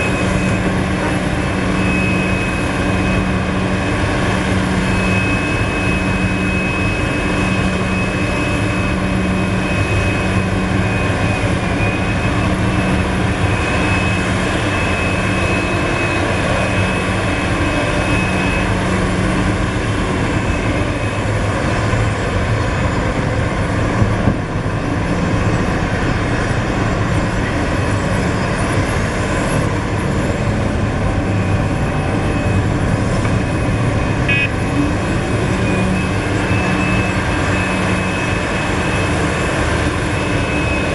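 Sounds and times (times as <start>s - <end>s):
excavator diesel engine: 0.0s - 40.9s
high steady whine: 0.0s - 40.9s.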